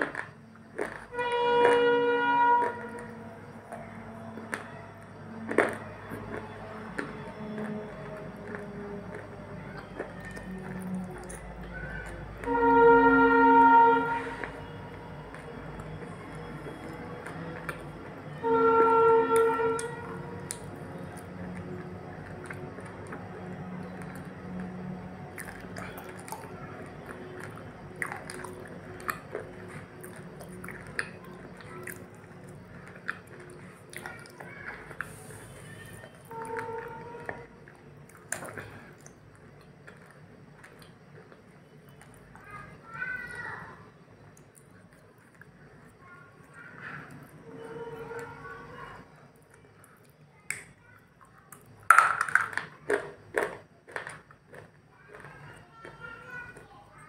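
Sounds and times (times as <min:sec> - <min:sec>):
person chewing food: 0:00.0 - 0:01.9, 0:02.5 - 0:12.6, 0:15.3 - 0:18.1, 0:19.4 - 0:42.5, 0:44.2 - 0:47.4, 0:51.2 - 0:56.8.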